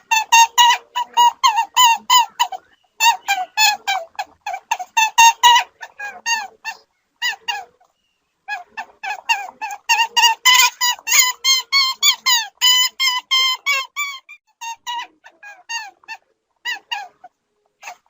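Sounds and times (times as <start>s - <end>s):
animal squeaky calls: 0.0s - 7.8s, 8.5s - 18.0s.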